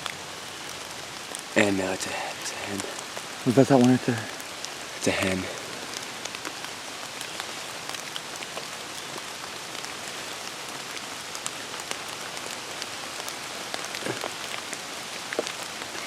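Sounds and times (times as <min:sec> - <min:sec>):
hard rain falling: 0:00.0 - 0:16.0.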